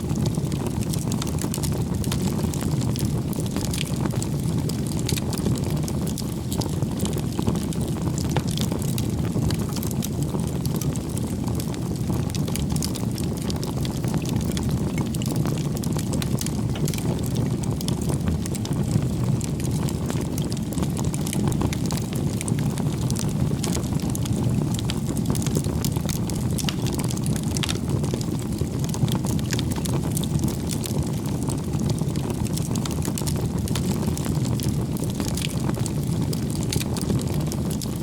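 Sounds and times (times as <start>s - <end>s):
low rumble of flames: 0.0s - 38.0s
wood crackling and popping: 0.0s - 38.0s.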